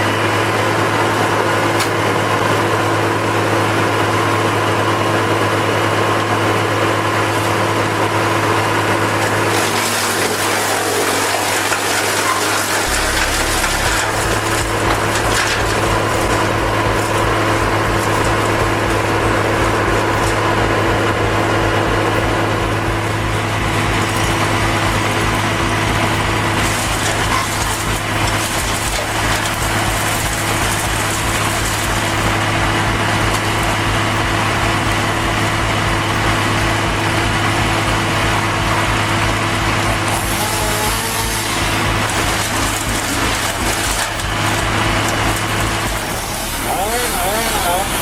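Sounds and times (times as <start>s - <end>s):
heavy machine engine running: 0.0s - 48.0s
rushes of high-pitched noise: 9.3s - 48.0s.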